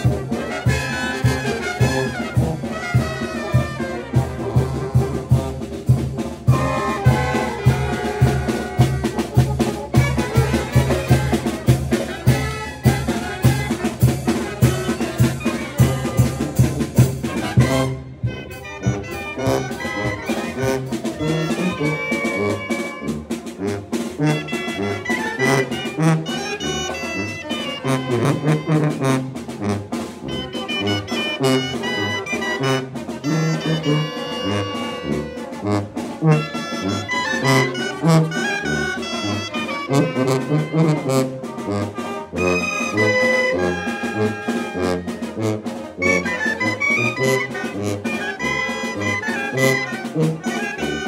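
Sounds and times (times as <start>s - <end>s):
brass band playing: 0.0s - 51.0s
snare drum strokes: 0.0s - 51.0s.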